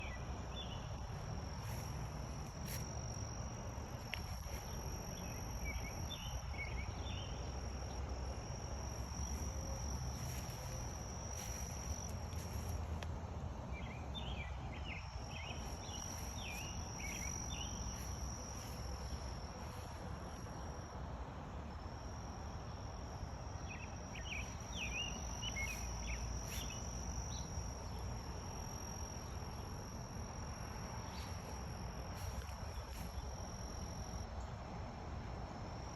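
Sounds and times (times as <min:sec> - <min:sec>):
insects trilling: 0:00.0 - 0:13.1, 0:13.7 - 0:21.0, 0:21.8 - 0:34.5.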